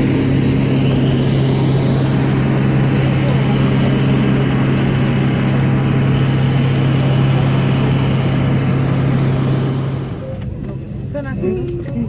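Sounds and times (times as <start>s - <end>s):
vehicle engine droning inside: 0.0s - 12.0s.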